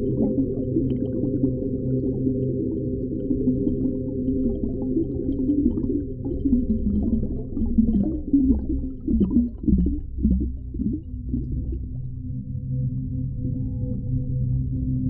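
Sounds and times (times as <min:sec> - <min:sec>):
deep underwater rumble: 0:00.0 - 0:15.0.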